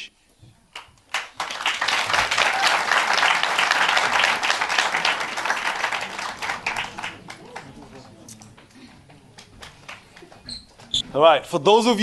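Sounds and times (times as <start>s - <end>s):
audience applauding: 0.8s - 10.5s.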